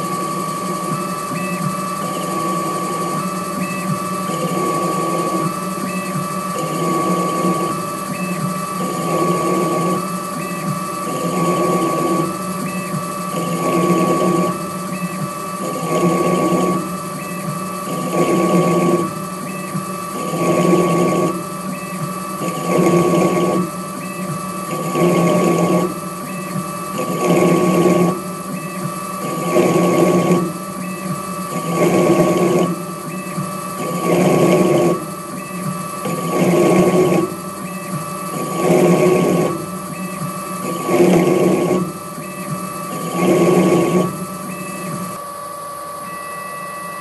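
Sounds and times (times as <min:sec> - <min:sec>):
lathe cutting bursts: 0:00.0 - 0:47.0
lathe drive whine and hum: 0:00.0 - 0:47.0.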